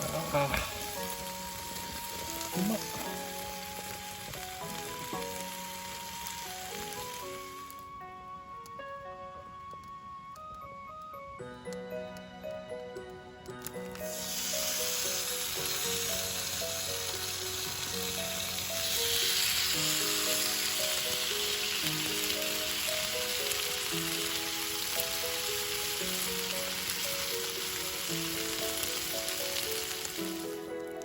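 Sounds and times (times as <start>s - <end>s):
food sizzling: 0.0s - 8.0s, 13.5s - 31.0s
background music simple melody: 0.0s - 31.0s.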